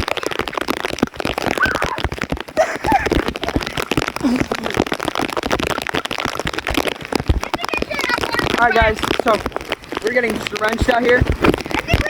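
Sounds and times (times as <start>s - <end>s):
heavy rain hitting microphone: 0.0s - 12.0s.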